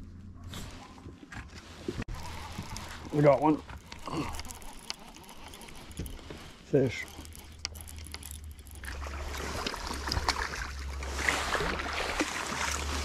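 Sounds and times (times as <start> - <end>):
rustling: 0.0 - 13.0
water splashing: 2.1 - 13.0.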